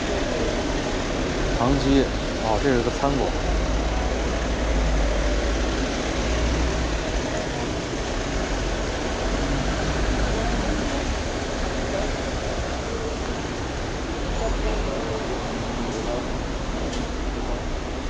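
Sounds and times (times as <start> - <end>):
street noise hiss: 0.0 - 18.0.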